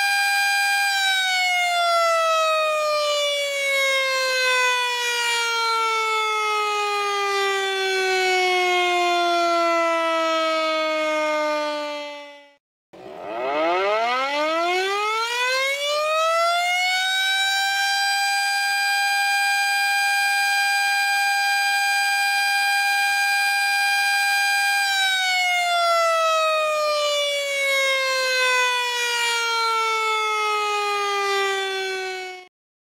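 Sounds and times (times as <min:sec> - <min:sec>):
warning siren wailing: 0:00.0 - 0:32.5.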